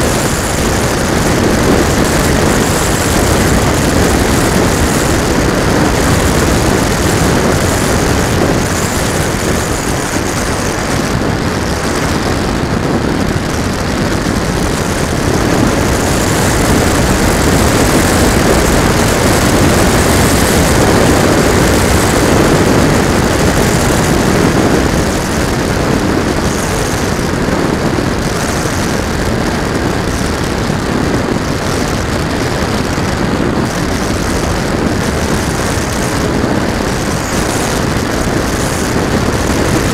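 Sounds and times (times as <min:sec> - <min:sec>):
model plane motor and propeller: 0:00.0 - 0:39.9
wind rushing over camera: 0:00.0 - 0:39.9.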